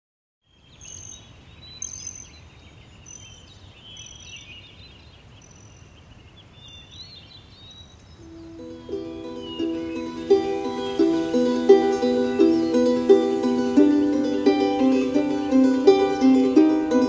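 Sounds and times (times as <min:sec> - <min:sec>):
birds chirping and whistling: 0:00.6 - 0:17.0.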